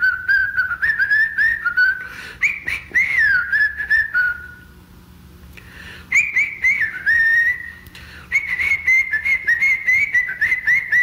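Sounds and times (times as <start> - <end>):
high whistling melody: 0.0 - 4.7, 6.1 - 11.0.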